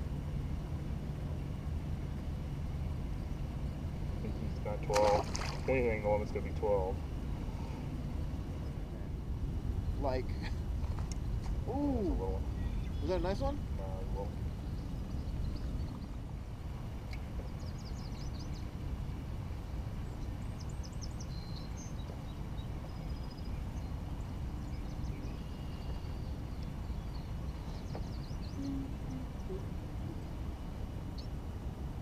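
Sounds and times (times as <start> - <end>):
steady low rumble: 0.0 - 32.0
songbirds calling: 1.2 - 8.9, 9.6 - 31.5.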